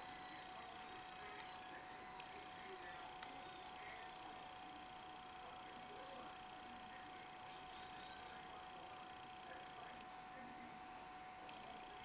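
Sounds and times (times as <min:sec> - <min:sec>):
thin electronic whine: 0:00.0 - 0:12.0.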